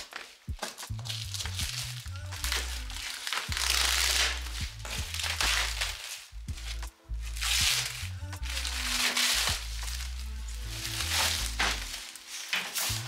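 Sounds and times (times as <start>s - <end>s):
background music with bass: 0.0s - 13.0s
plastic wrapping crinkling: 0.0s - 13.0s.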